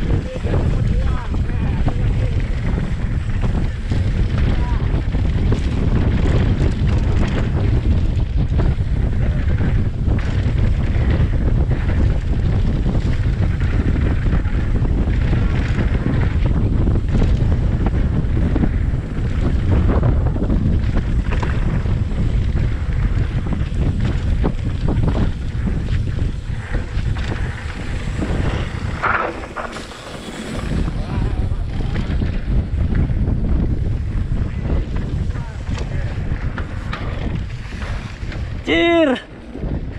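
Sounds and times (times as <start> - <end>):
bike knocks and rattles: 0.0 - 38.7
bike tyres rolling on dirt: 0.0 - 39.9
wind buffeting microphone: 0.0 - 39.9.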